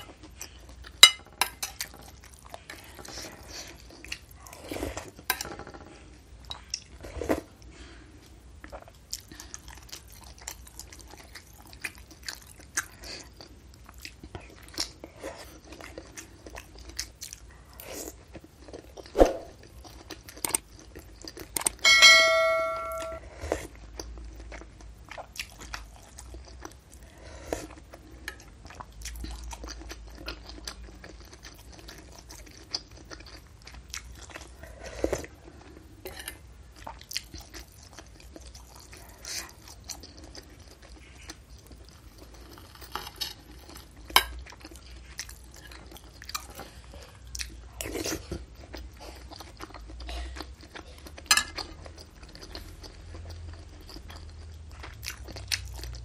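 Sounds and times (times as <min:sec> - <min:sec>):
close chewing and crunching: 0:00.0 - 0:21.9, 0:22.9 - 0:56.0.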